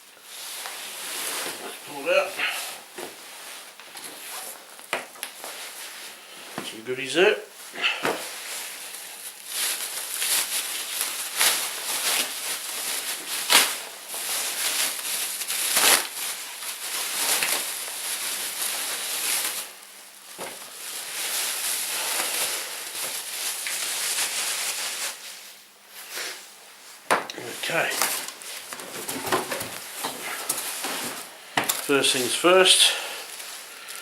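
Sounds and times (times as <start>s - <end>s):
plastic packaging crinkling: 0.2s - 6.6s, 7.2s - 25.6s, 27.3s - 34.0s.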